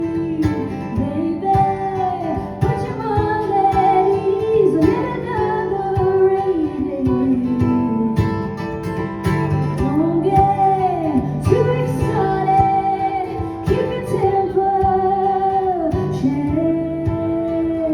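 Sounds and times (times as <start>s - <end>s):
guitar: 0.0s - 17.9s
woman singing: 0.0s - 17.9s.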